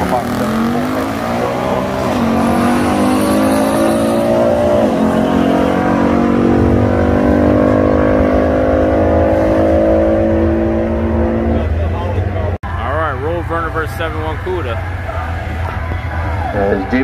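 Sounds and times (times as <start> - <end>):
racing car engines at full throttle: 0.0 - 17.0.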